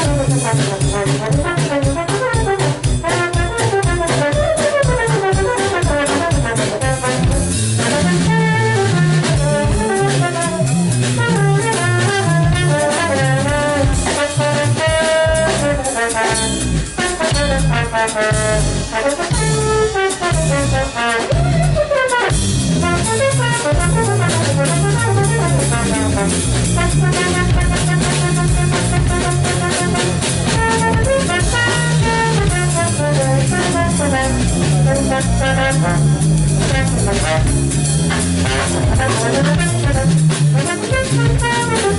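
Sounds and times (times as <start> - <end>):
drum kit: 0.0 - 41.9
keyboard accompaniment: 0.0 - 41.9
trombone melody: 0.0 - 41.9.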